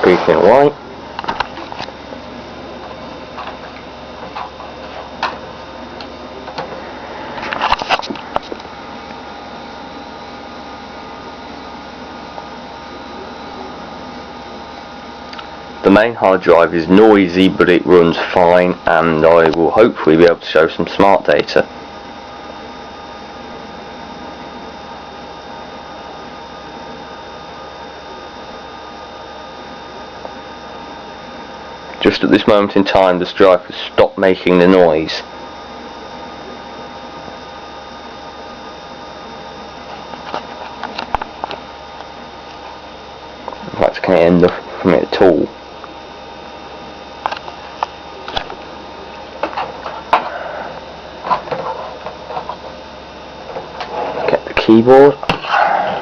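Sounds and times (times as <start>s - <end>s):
computer cooling fans whirring: 0.0s - 56.0s
hard drive spinning: 0.0s - 56.0s.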